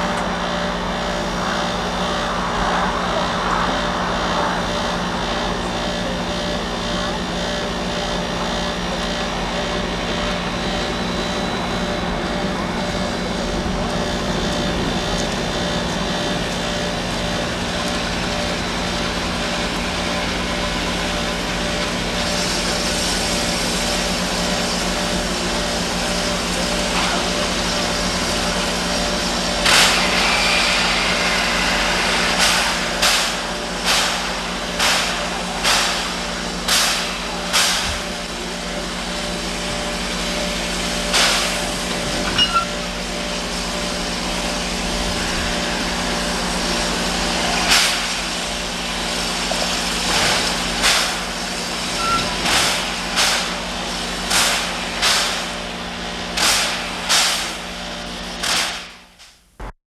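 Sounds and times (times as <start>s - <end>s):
steam locomotive chuffs: 0.0s - 59.2s
steady mechanical hum: 0.0s - 59.7s.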